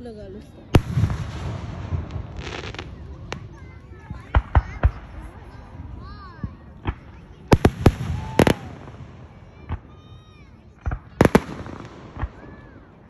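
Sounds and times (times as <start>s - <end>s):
fireworks bangs: 0.7s - 5.7s, 6.3s - 13.0s.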